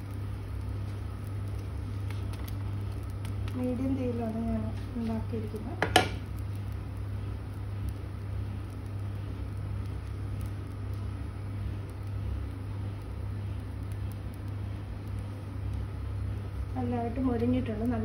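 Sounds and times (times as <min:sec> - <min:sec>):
low hum with light whir: 0:00.0 - 0:18.0.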